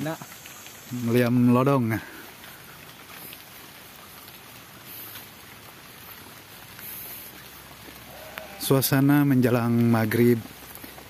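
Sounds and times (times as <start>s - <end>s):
drizzle pattering on foliage: 0.0s - 11.0s.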